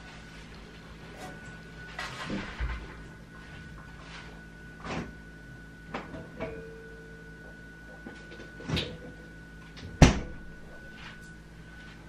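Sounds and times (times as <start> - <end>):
faint steady whine: 0.0 - 12.0
low tone: 0.0 - 12.0.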